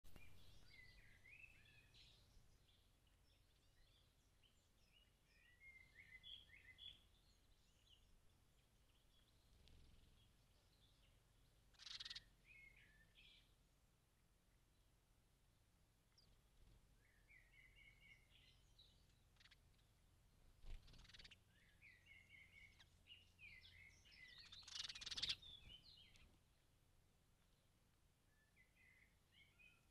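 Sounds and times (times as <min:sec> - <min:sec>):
faint sparrows chirping: 0:00.0 - 0:29.9.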